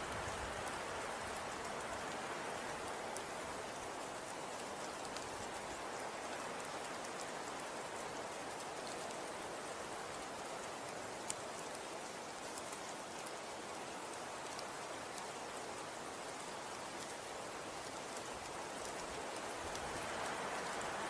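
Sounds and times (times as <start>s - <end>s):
soft hiss of falling snow: 0.0s - 21.0s.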